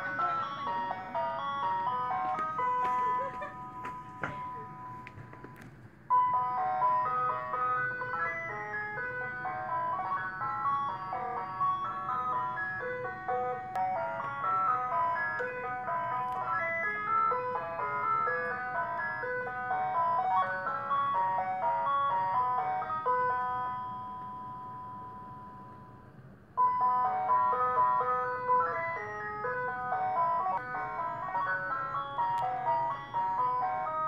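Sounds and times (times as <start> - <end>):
ice cream truck jingle: 0.0 - 34.0.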